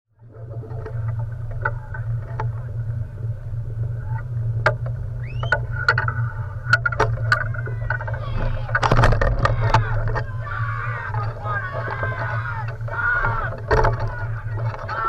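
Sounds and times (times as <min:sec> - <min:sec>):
watercraft engine running: 0:00.2 - 0:15.0.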